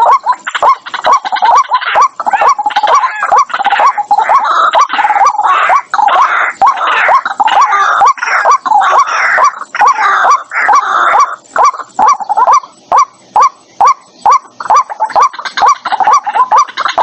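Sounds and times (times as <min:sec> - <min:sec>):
bird short rising kwak notes: 0:00.0 - 0:17.0
waterbird harsh calls: 0:00.0 - 0:17.0.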